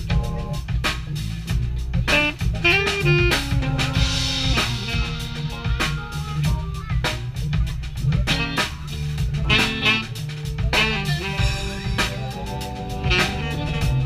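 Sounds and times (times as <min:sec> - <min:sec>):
drum kit: 0:00.0 - 0:14.0
keyboard: 0:00.0 - 0:14.0
upright bass: 0:00.0 - 0:14.0.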